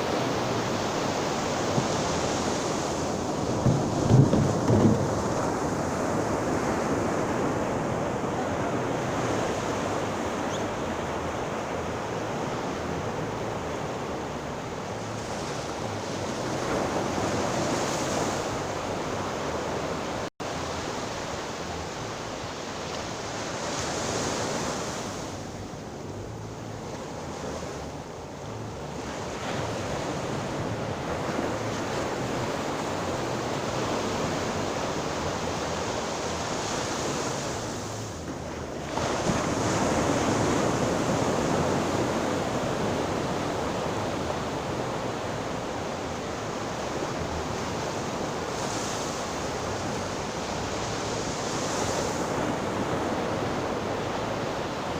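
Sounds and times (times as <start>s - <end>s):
waves washing onto shore: 0.0s - 54.9s.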